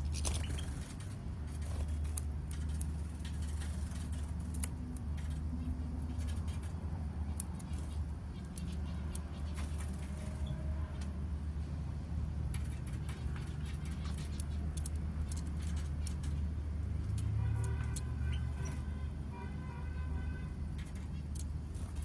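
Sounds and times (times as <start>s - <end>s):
small birds chirping: 0.0s - 11.0s, 12.4s - 19.2s, 20.6s - 22.0s.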